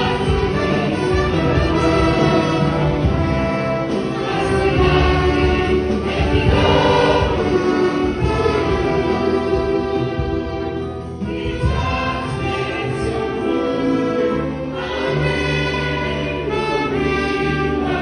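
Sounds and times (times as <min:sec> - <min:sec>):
choir singing a hymn: 0:00.0 - 0:18.0
violins and woodwinds playing: 0:00.0 - 0:18.0.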